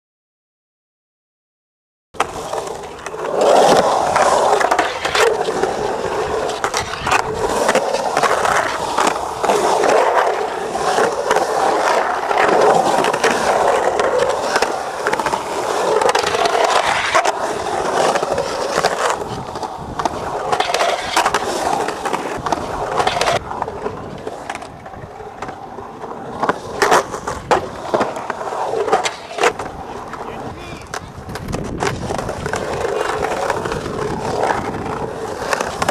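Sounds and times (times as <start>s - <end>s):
skateboard clacks: 2.2s - 35.9s
skateboard wheels rolling on concrete: 2.2s - 35.9s.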